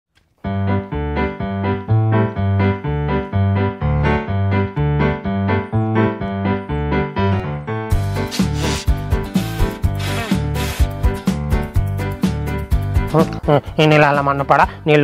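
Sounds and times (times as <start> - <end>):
keyboard melody: 0.4 - 14.4.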